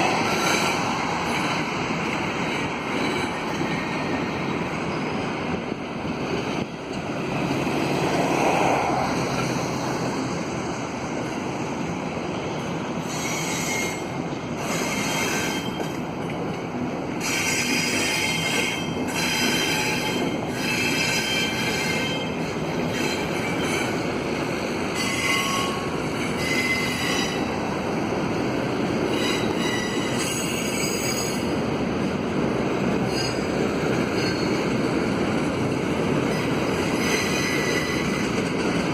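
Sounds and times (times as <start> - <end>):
steel wheels squealing on rails: 0.0 - 31.8, 32.8 - 38.9
freight train cars rumbling: 0.0 - 38.9.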